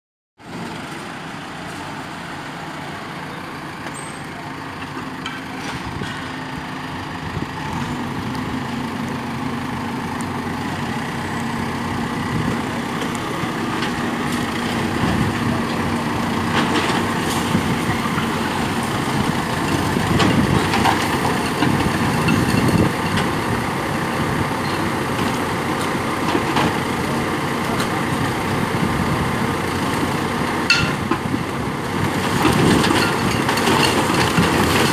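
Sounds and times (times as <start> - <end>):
diesel engines running: 0.4 - 34.9.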